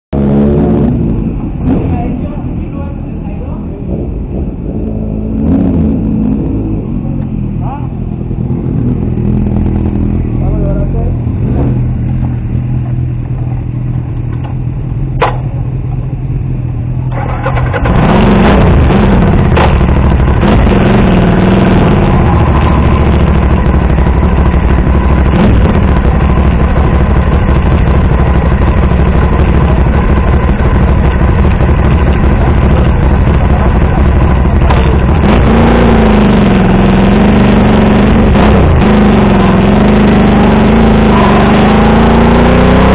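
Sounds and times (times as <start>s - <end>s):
loud rushing noise: 0.1s - 10.5s, 17.1s - 42.9s
motorcycle engine running: 0.1s - 42.9s.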